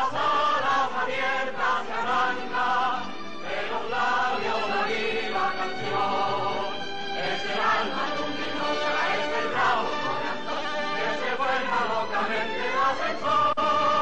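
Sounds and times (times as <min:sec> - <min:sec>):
choir singing with instruments: 0:00.0 - 0:14.0.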